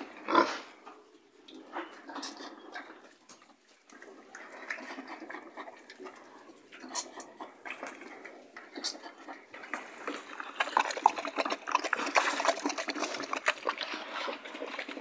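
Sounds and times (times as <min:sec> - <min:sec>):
pigs chewing: 0:00.0 - 0:15.0.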